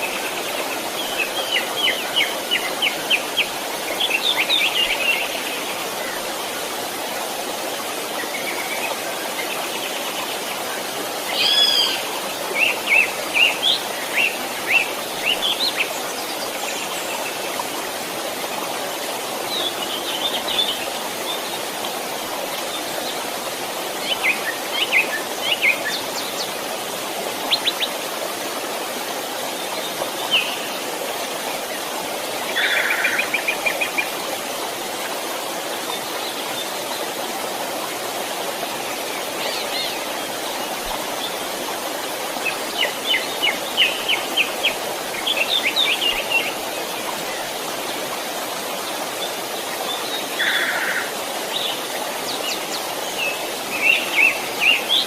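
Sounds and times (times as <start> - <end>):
stream running: 0.0 - 55.0.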